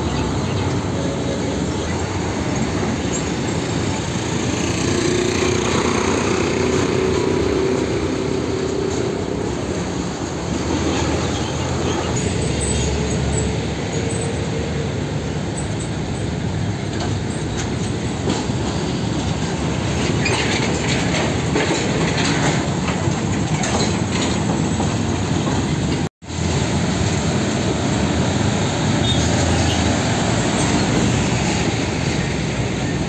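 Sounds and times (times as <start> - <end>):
diesel truck engines: 0.0 - 33.0
trailers rattling and clanking: 0.0 - 33.0.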